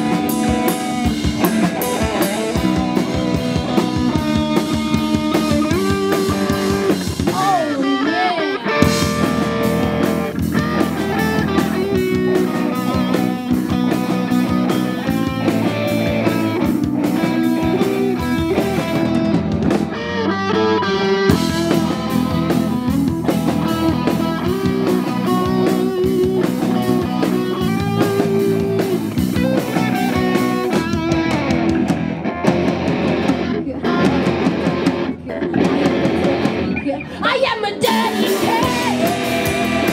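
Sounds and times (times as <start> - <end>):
punk rock band playing live: 0.0 - 39.9.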